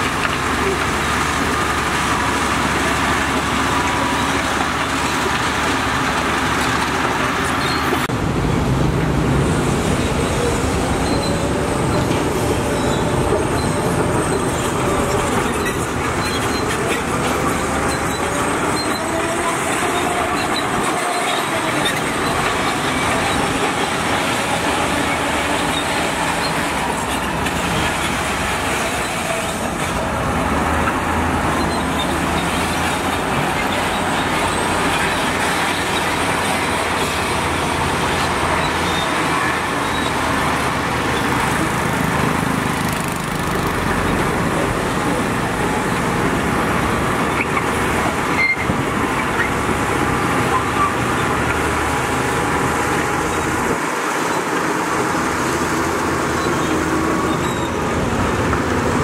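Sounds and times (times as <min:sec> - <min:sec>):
metal squealing and clanking: 0:00.0 - 0:08.1, 0:10.0 - 0:41.9, 0:43.3 - 0:58.1
diesel engine drone: 0:00.0 - 0:59.0.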